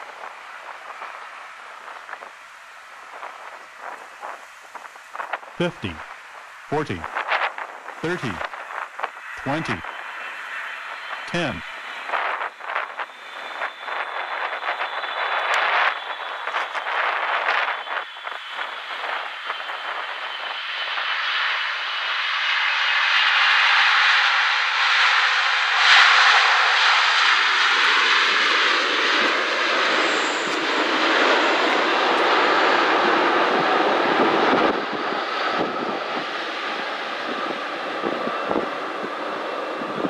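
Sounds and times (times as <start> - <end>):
jet engines in reverse thrust: 0.0 - 40.0.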